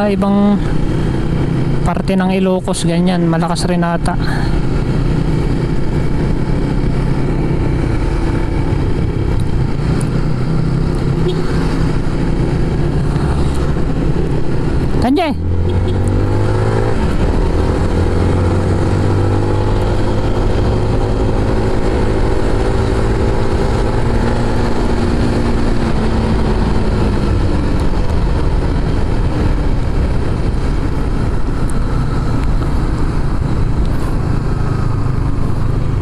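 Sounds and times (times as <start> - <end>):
motorcycle engine running: 0.0 - 36.0
wind rumble on microphone: 4.6 - 36.0.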